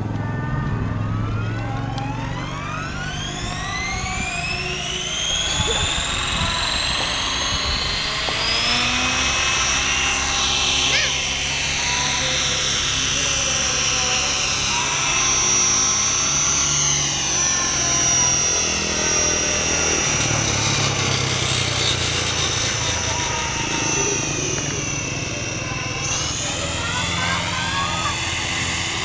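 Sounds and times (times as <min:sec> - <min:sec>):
high motor whine: 0:00.0 - 0:29.0
rotor blades humming: 0:00.0 - 0:29.0.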